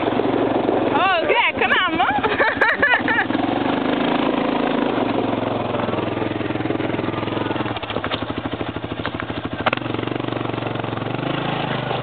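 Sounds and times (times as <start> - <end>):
atv engines at low revs: 0.0 - 12.0.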